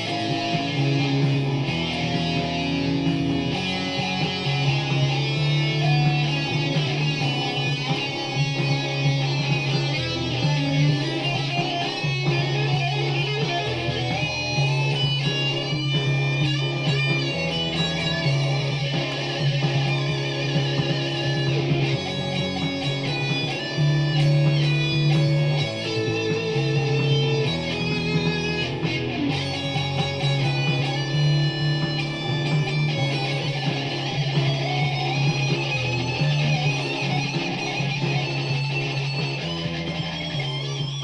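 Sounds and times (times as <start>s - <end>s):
low bass line: 0.0s - 40.6s
guitar music: 0.0s - 41.0s.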